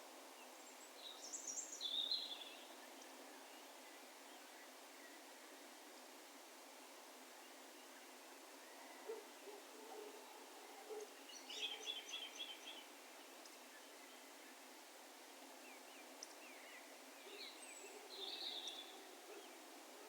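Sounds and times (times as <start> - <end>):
open-country ambience hiss: 0.0 - 20.0.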